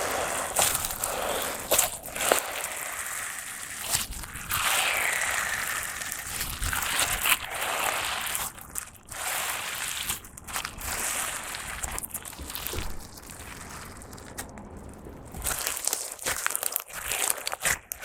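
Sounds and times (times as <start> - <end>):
slime squished by hand: 0.0 - 18.0.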